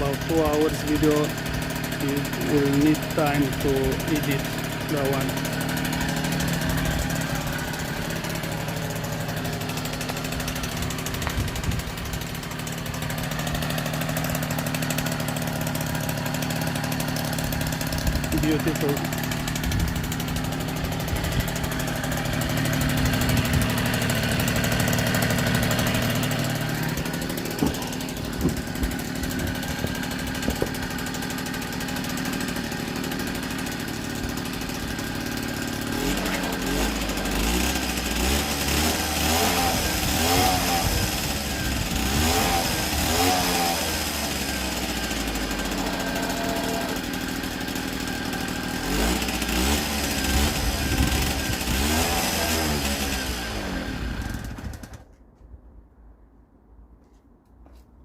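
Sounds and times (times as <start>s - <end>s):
two-stroke moped engine revving: 0.0s - 55.1s.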